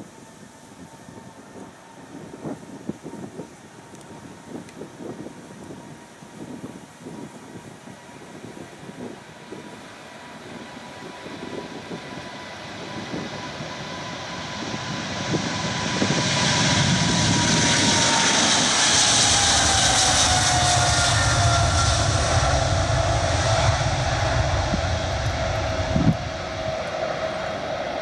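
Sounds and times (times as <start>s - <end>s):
jet engines whining at takeoff: 0.0s - 28.0s
deep jet rumble: 0.2s - 28.0s.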